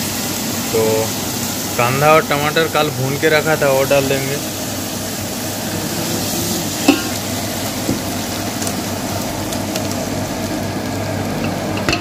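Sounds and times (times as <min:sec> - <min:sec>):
oil sizzling in a cooking pot: 0:00.0 - 0:12.0.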